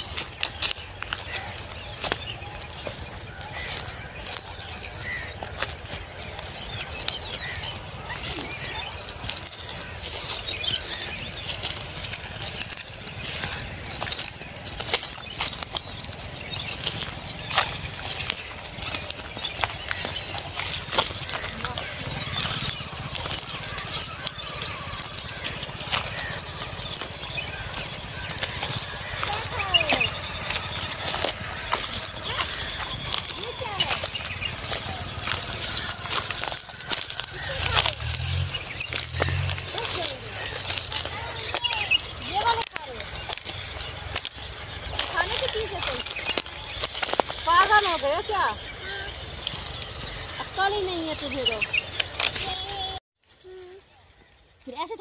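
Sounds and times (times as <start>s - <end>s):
bird chirps: 0.0s - 55.0s
footsteps crunching on stubble: 0.0s - 55.0s
stalks crackling underfoot: 0.0s - 55.0s.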